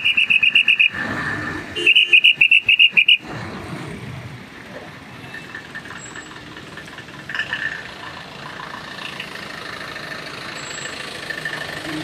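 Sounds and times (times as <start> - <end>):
car engines in slow traffic: 0.0 - 12.0.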